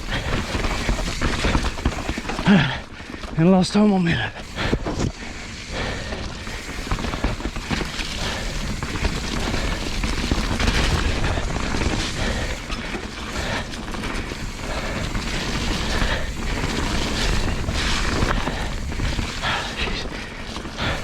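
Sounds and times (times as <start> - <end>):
bike knocking and rattling: 0.0 - 21.0
bike tyres rumbling on trail: 0.0 - 21.0.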